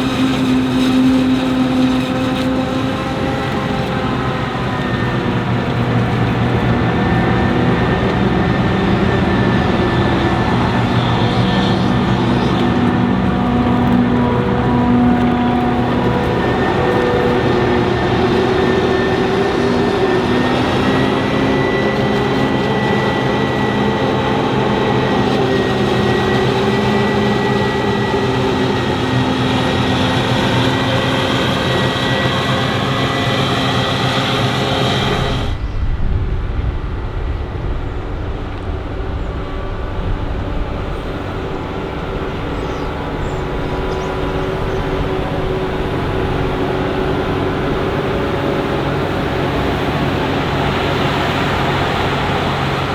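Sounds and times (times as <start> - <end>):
heavy machinery engines running: 0.0 - 52.9
lower-pitched engine: 0.0 - 52.9.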